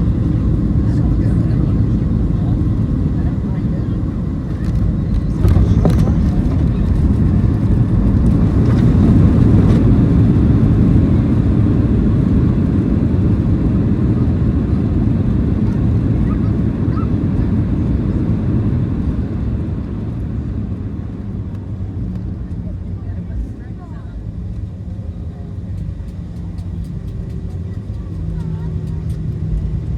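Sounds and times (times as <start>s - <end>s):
airliner cabin roar: 0.0s - 29.9s.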